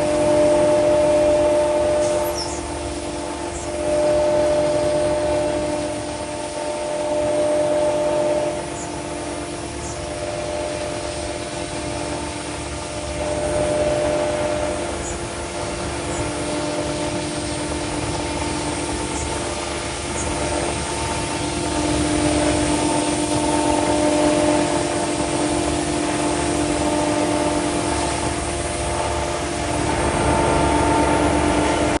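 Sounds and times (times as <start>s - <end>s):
cnc router spindle humming: 0.0s - 32.0s.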